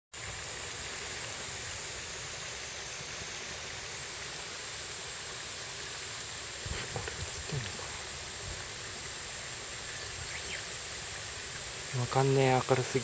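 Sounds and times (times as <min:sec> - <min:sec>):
mountain stream rushing: 0:00.2 - 0:13.0.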